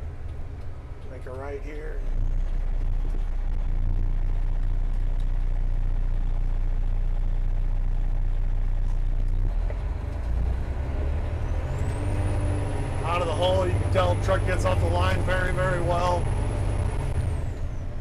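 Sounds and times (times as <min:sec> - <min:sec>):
high whine: 0:00.0 - 0:18.0
truck diesel engine droning: 0:00.0 - 0:18.0.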